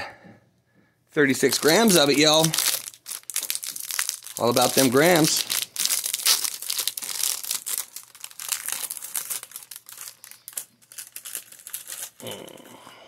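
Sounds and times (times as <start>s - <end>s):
foil packet crinkling and tearing: 1.3s - 12.6s.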